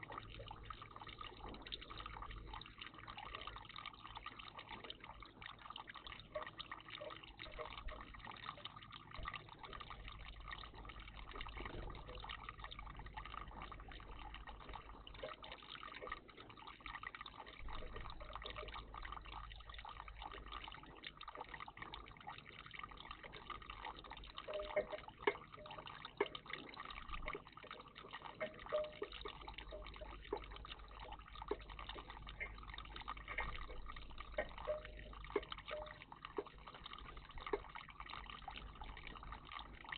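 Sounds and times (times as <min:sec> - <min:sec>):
water splashes and clicks: 0:00.0 - 0:39.9
water trickling and dripping: 0:00.0 - 0:39.9.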